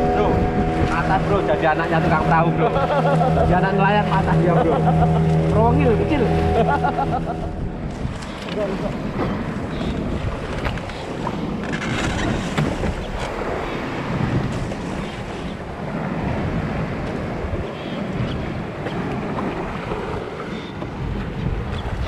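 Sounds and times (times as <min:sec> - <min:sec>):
choppy sea splashing: 0:00.0 - 0:22.0
wind buffeting microphone: 0:00.0 - 0:22.0.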